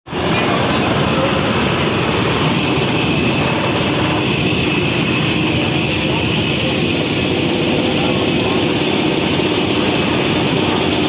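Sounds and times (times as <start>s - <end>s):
heavy machinery running: 0.1s - 11.0s.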